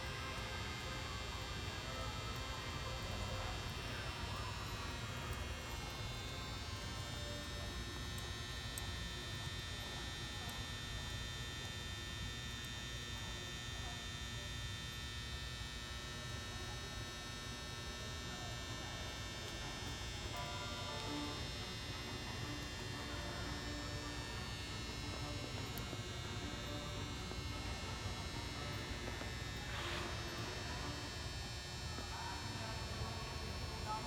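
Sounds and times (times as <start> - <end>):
electrical hum: 0.0 - 34.0
faint high whine: 0.0 - 34.0.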